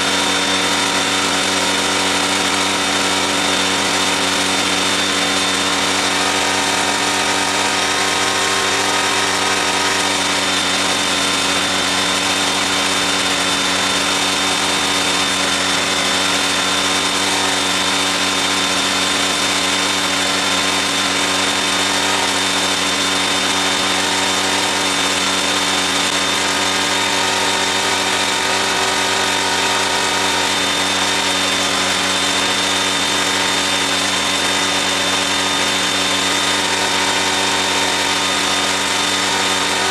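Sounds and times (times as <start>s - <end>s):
small motor humming and whining: 0.0s - 39.9s.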